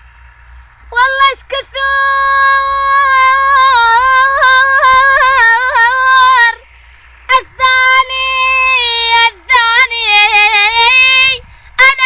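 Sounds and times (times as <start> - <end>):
girl singing unaccompanied: 0.9 - 6.6, 7.3 - 12.0.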